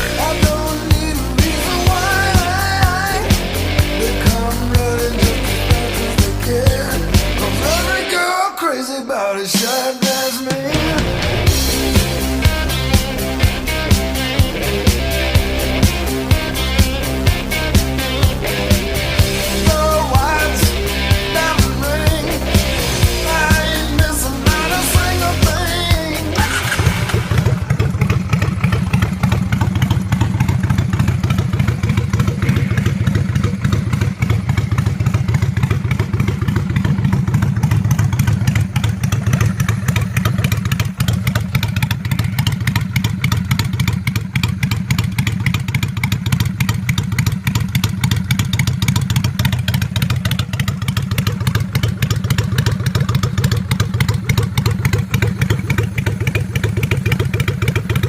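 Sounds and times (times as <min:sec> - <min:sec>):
motorcycle engine idling: 0:00.0 - 0:08.1, 0:10.7 - 0:58.0.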